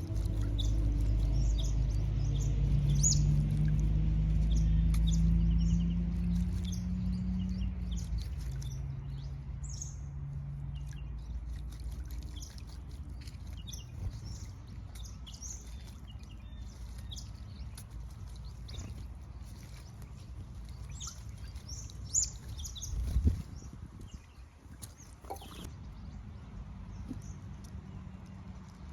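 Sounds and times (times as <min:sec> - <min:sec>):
deep droning hum: 0:00.0 - 0:23.6.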